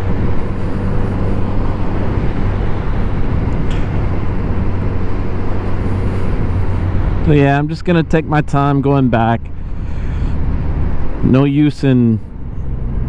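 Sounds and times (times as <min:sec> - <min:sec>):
motorcycle engine humming: 0:00.0 - 0:13.0
wind and road noise: 0:00.0 - 0:13.0.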